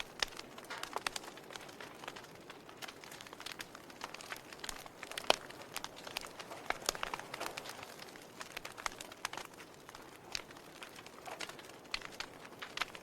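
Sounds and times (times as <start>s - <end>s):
burning wood popping and snapping: 0.0s - 13.0s
soft steady hiss of fire: 0.0s - 13.0s.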